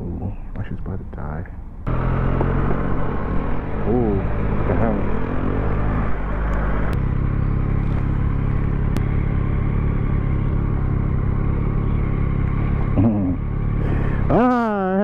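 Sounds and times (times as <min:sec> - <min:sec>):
motorcycle engine running: 0:01.9 - 0:15.0.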